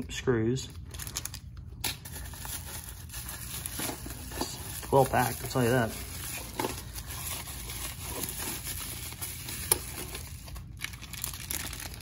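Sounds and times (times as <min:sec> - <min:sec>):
bubble wrap crinkling: 0:00.7 - 0:12.0.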